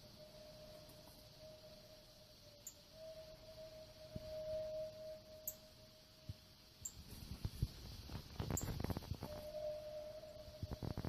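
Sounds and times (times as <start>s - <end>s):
faint steady hum: 0.0s - 11.0s
light hiss: 0.0s - 11.0s.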